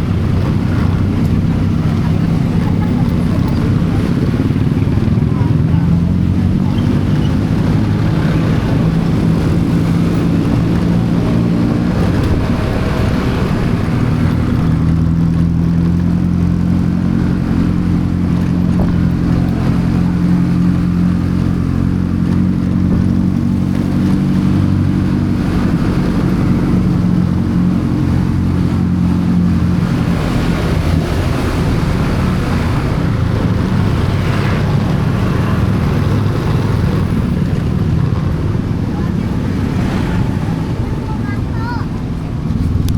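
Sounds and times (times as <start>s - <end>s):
engine humming: 0.0s - 42.9s
wind and travel noise: 0.0s - 42.9s.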